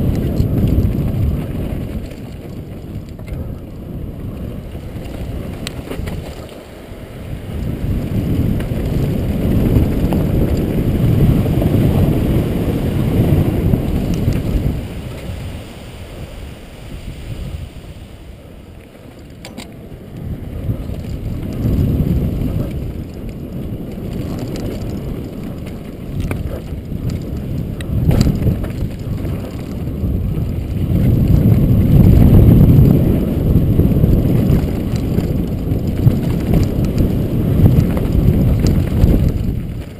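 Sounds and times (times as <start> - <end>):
tyres rumbling on gravel: 0.0 - 16.3, 18.4 - 39.9
wind rushing over microphone: 0.0 - 39.9.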